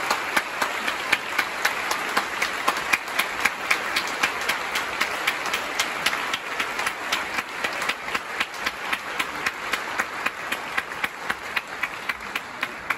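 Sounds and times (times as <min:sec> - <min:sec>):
audience applauding: 0:00.0 - 0:12.9
loud steady hand clapping: 0:00.0 - 0:12.9.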